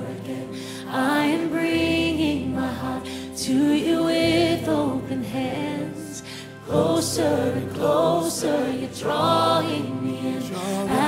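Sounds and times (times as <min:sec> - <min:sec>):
singers and choir singing: 0:00.0 - 0:11.0.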